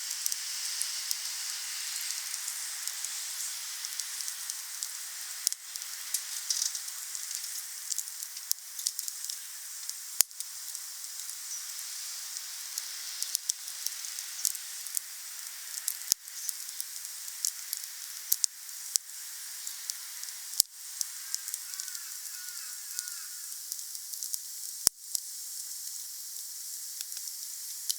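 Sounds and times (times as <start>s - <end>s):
wood fire crackling: 0.0s - 27.9s
burning wood popping: 2.1s - 27.9s.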